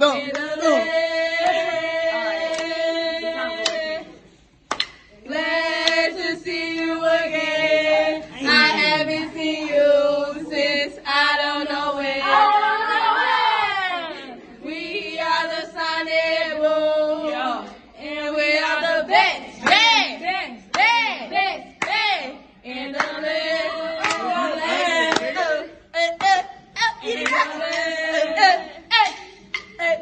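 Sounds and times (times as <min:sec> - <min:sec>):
women singing a chant: 0:00.0 - 0:04.2, 0:05.1 - 0:30.0.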